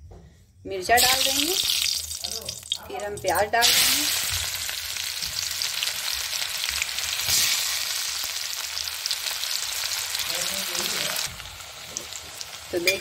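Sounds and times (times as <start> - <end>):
onions sizzling in hot oil: 0.9 - 13.0.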